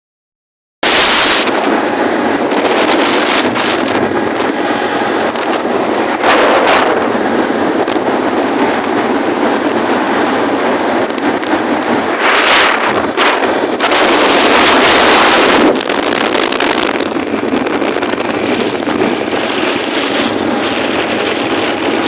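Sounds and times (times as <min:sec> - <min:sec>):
wind buffeting microphone: 0:00.8 - 0:22.0.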